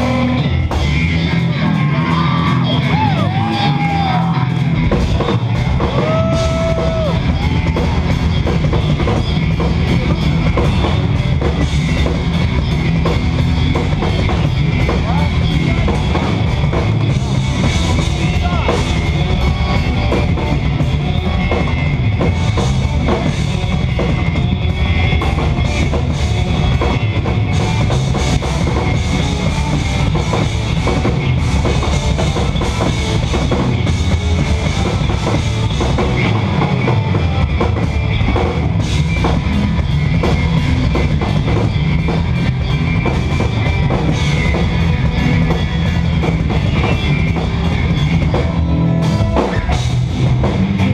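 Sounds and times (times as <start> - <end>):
electric guitars playing metal: 0.0 - 50.9
rapid drumming: 0.0 - 50.9.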